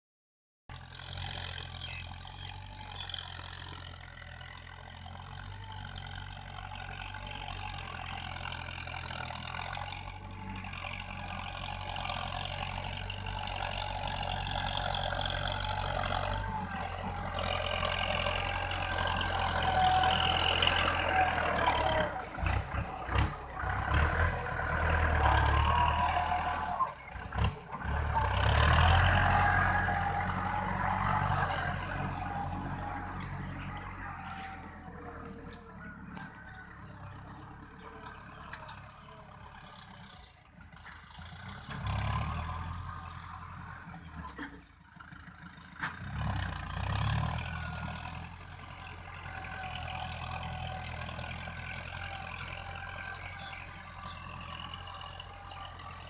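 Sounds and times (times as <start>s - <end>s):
tractor engine running: 0.7s - 56.0s.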